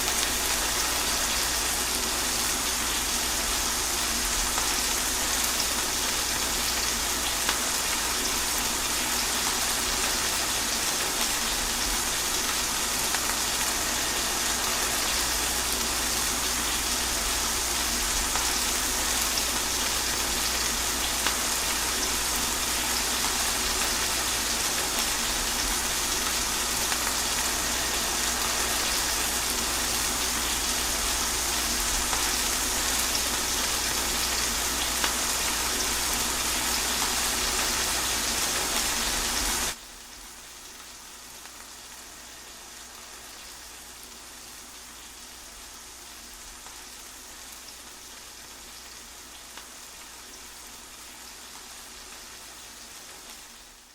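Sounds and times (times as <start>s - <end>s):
steady rain hissing: 0.0s - 53.9s.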